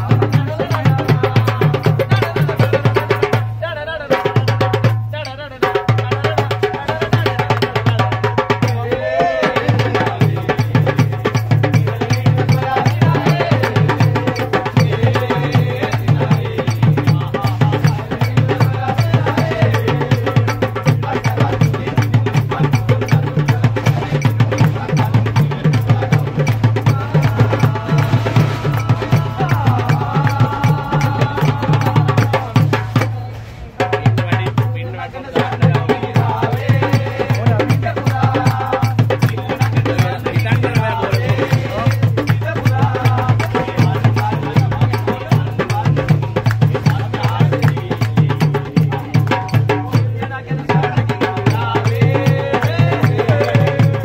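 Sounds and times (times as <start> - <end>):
hand drums beaten in fast rhythm: 0.0 - 54.0
men singing: 0.0 - 54.0.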